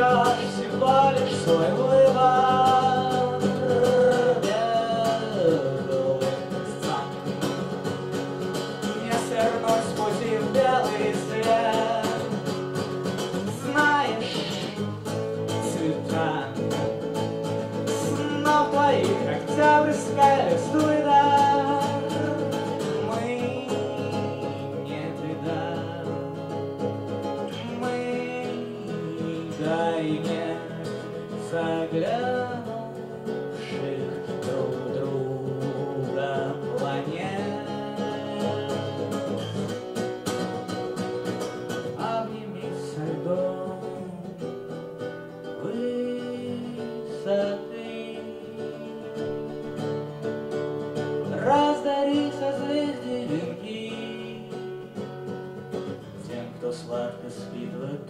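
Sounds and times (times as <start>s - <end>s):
acoustic guitar playing: 0.0s - 58.0s.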